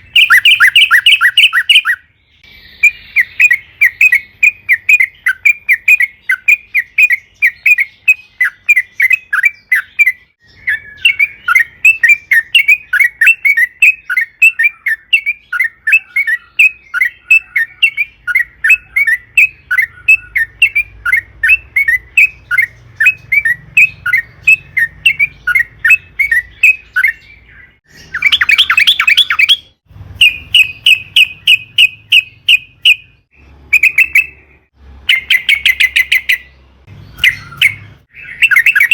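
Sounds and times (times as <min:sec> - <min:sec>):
bird chattering: 0:00.0 - 0:36.6, 0:37.2 - 0:38.9.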